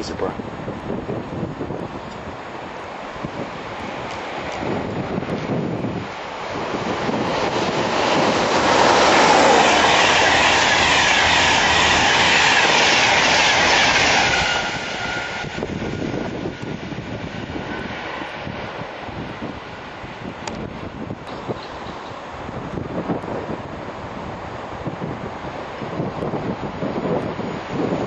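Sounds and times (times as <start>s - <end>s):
train passing at speed: 0.0s - 28.0s.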